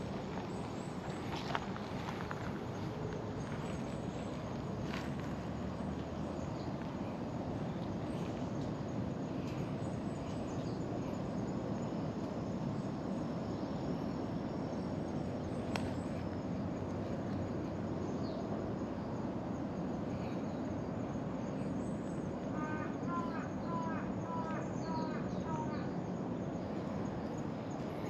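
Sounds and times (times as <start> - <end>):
faint insect chirping: 0.0 - 28.0
outdoor background noise: 0.0 - 28.0.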